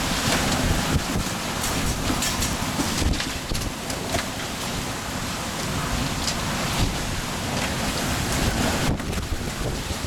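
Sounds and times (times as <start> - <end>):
heavy rain: 0.0 - 10.0
storm wind: 0.0 - 10.0
wind gusts buffeting microphone: 0.0 - 10.0.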